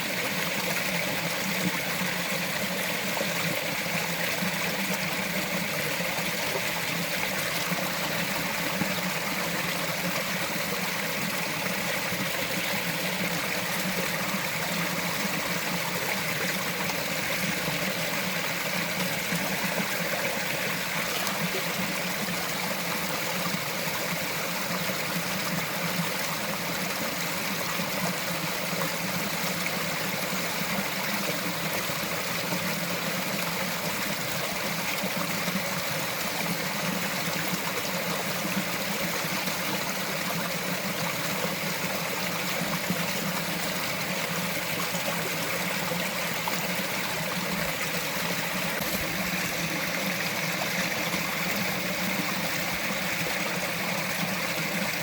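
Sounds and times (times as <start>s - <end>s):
stream gurgling over rocks: 0.0s - 55.0s.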